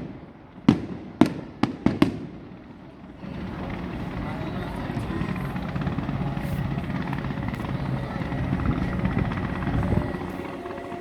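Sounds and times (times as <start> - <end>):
low rumble of fireworks: 0.0 - 11.0.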